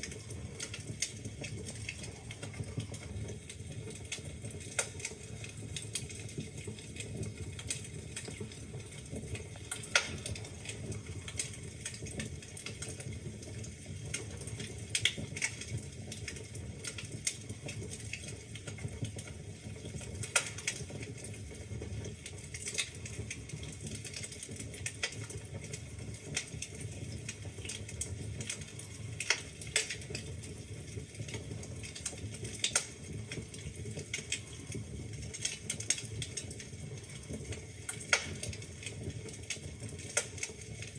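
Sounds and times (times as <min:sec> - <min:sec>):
fire flames rumbling: 0:00.0 - 0:40.9
logs crackling and popping: 0:00.0 - 0:40.9.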